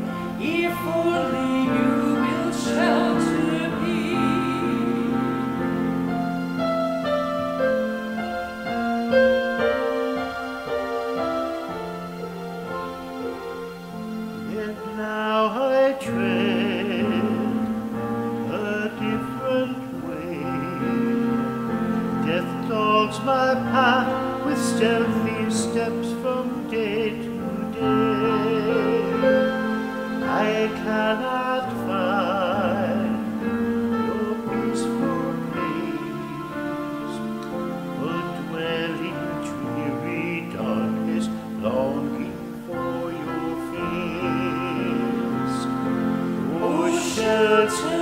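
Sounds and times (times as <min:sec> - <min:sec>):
person singing: 0:00.0 - 0:48.0
sustained accompaniment: 0:00.0 - 0:48.0.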